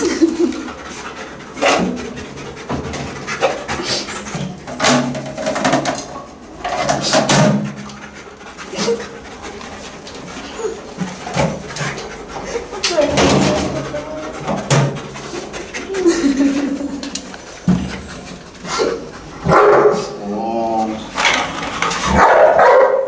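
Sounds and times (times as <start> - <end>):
dog panting: 0.0 - 22.8
dog sniffing: 0.0 - 23.0.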